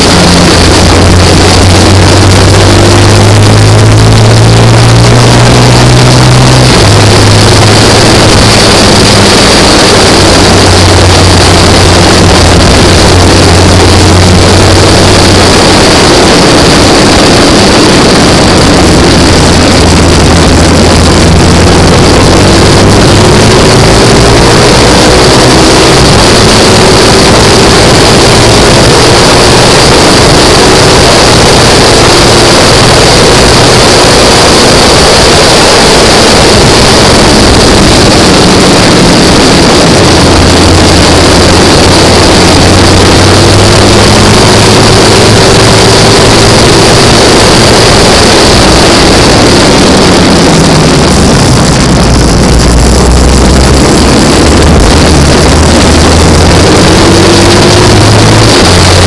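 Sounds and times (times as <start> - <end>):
racing engine running hard: 0.0 - 59.0
wind noise over microphone: 0.0 - 59.0.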